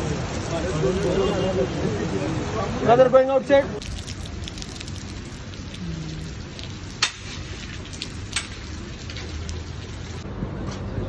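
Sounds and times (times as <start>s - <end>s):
heavy rain falling: 0.0s - 10.2s
raindrops ticking: 0.0s - 10.2s.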